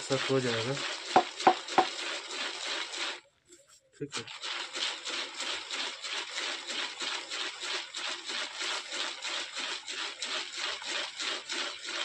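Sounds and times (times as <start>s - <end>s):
pellets rattling in a swirled jar: 0.0s - 12.0s.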